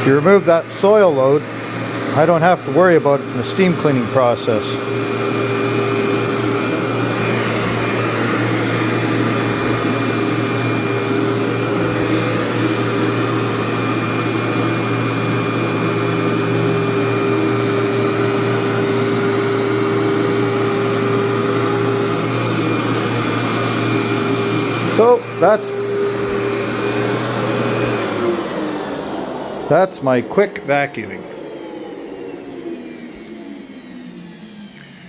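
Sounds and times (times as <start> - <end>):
vacuum cleaner running on carpet: 0.0 - 35.0.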